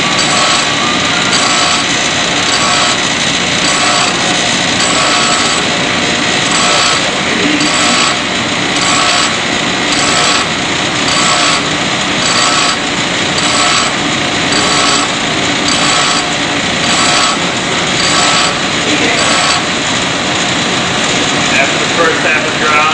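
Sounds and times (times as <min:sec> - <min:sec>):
grinder grinding steel: 0:00.0 - 0:22.9.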